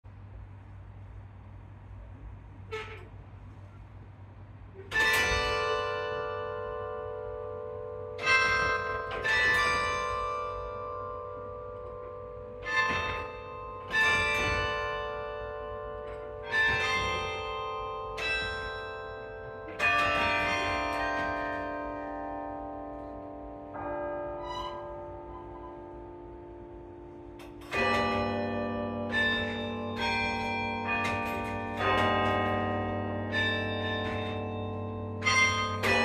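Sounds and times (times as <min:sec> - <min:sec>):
carillon bells ringing: 0:04.9 - 0:36.0.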